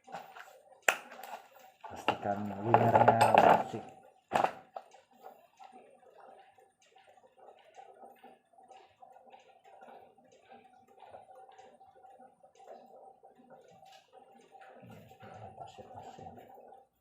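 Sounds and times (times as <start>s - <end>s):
rhythmic rubbing strokes: 0.0s - 17.0s.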